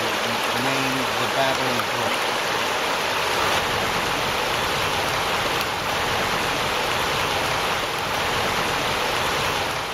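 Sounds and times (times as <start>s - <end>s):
brook babbling over rocks: 0.0s - 9.9s.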